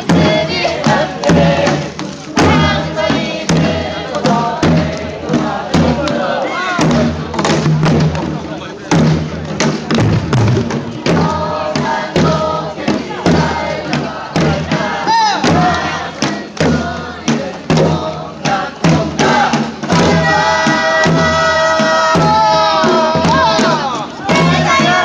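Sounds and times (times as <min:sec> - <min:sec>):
drum strikes: 0:00.0 - 0:25.0.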